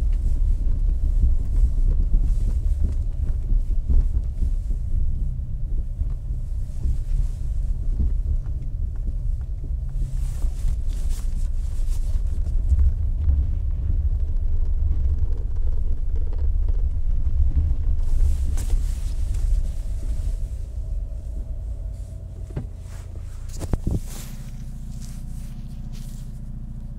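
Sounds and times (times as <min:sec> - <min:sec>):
engine idling: 0:00.0 - 0:26.9
race car engine drone: 0:00.0 - 0:26.9.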